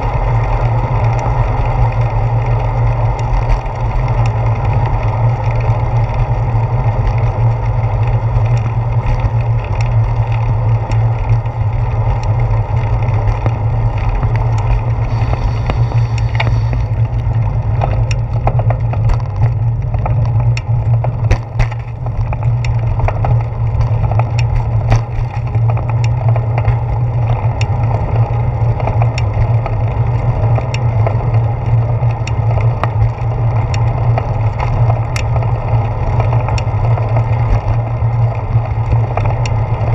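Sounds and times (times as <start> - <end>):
bicycle clicks and rattles: 0.0 - 39.9
bicycle tyres rumbling on pavement: 0.0 - 39.9.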